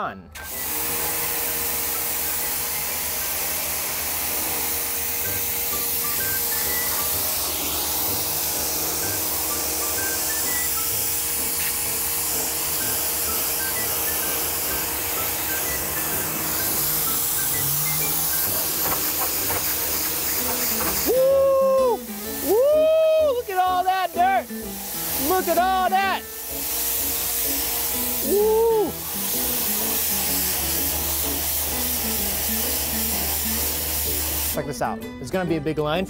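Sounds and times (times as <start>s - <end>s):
pressure washer spraying metal: 0.4s - 34.7s.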